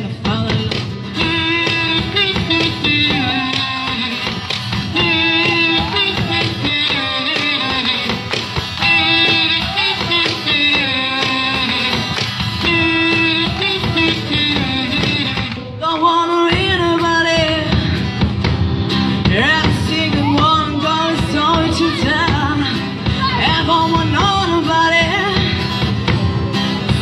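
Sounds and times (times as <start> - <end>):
person singing: 0.0 - 18.0, 19.1 - 27.0
acoustic guitar: 0.0 - 27.0.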